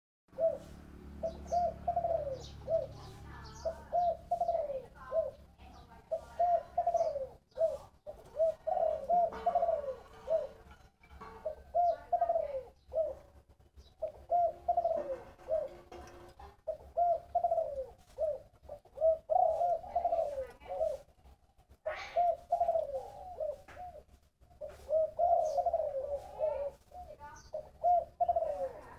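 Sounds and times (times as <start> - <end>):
dove cooing: 0.3 - 28.9.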